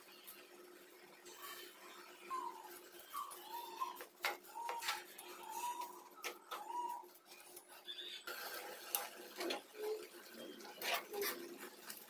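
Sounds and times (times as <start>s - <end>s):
faint squeaky tones: 0.0s - 8.6s, 9.4s - 12.0s.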